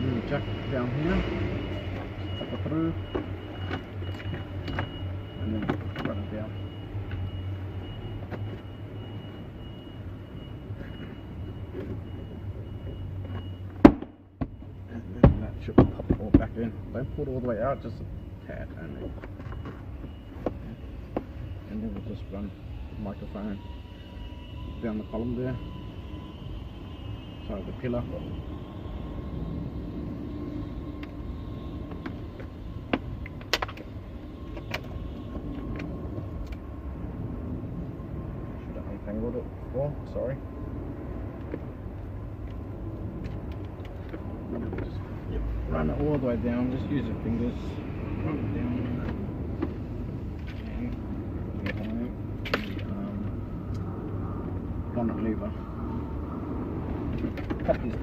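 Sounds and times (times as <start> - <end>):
low hum inside car: 0.0 - 58.0
steady low background rumble: 0.0 - 58.0.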